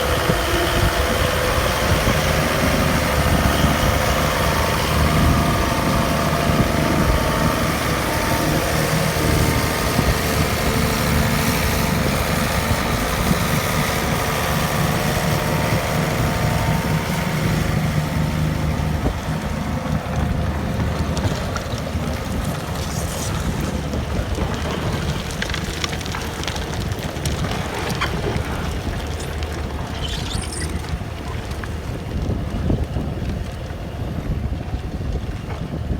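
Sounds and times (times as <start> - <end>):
tractor diesel engine under load: 0.0 - 35.9
wind buffeting microphone: 0.0 - 35.9.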